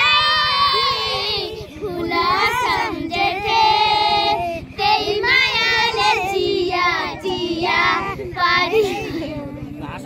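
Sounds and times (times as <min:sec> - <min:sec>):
young girls singing unaccompanied: 0:00.0 - 0:09.8.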